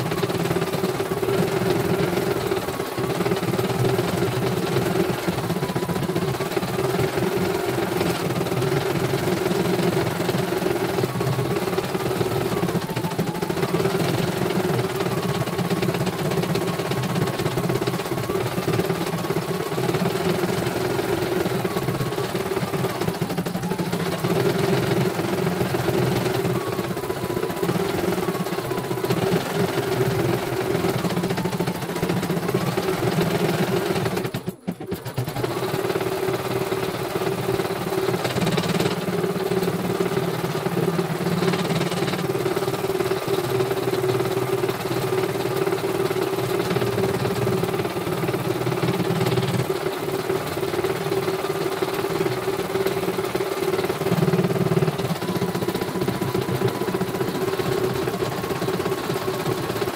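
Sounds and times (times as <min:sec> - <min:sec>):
embroidery machine needle chatter: 0:00.0 - 0:59.9.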